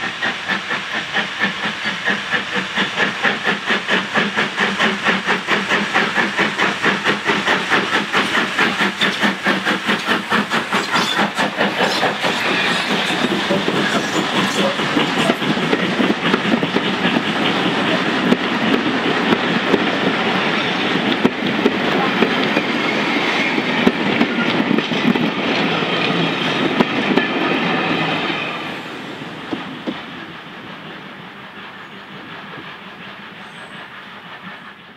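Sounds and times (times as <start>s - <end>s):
steam locomotive chuffing: 0.0s - 34.9s
train wheels clacking on rails: 0.0s - 34.9s.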